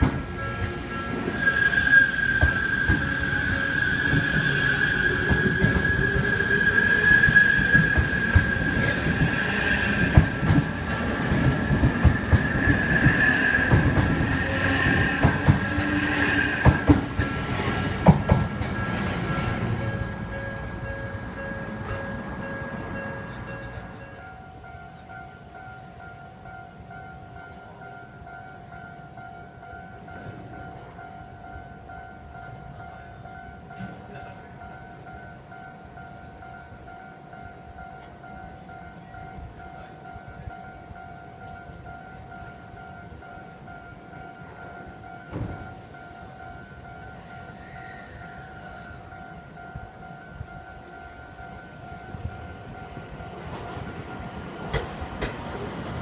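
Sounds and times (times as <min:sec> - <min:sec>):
train rumble: 0:00.0 - 0:25.6, 0:33.6 - 0:56.0
railroad crossing bell ringing: 0:00.0 - 0:56.0.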